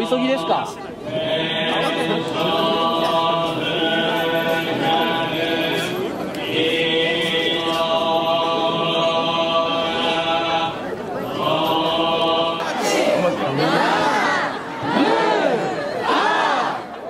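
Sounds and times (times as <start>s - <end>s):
group chanting held tones: 0.0s - 17.0s.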